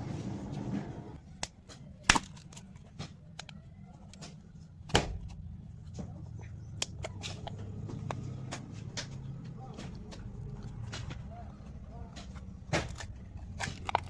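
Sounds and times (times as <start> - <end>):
low steady hum: 0.0 - 14.0
candy packaging clicks and taps: 1.3 - 14.0.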